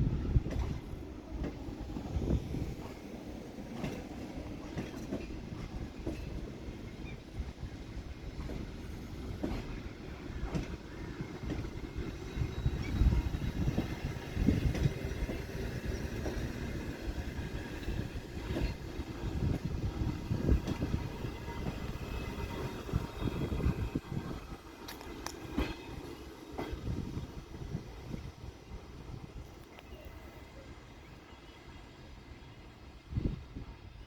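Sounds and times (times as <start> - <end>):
train rumbling past: 0.0 - 34.0.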